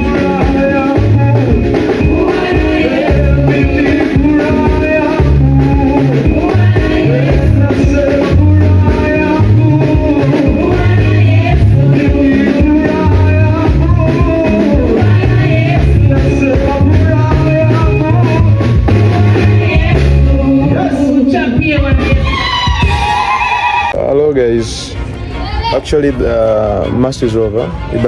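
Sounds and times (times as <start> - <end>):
repeating bass line: 0.0 - 24.0
loud music with singing: 0.0 - 28.0.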